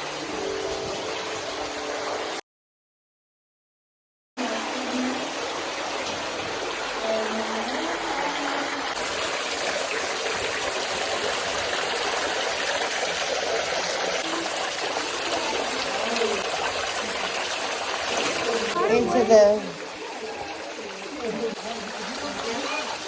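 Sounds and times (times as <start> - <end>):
running water flowing: 0.0 - 2.4, 4.4 - 23.0.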